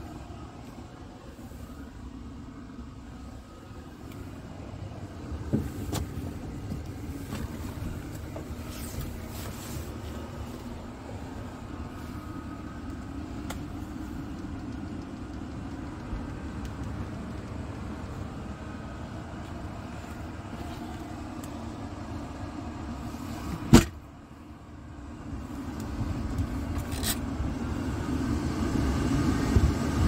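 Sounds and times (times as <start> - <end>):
diesel engine idling: 0.0 - 26.7.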